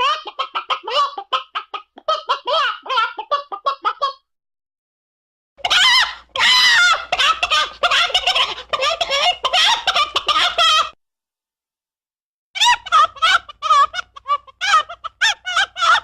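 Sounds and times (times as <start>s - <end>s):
chicken squawking and clucking: 0.0s - 4.2s, 5.6s - 11.0s, 12.6s - 16.0s.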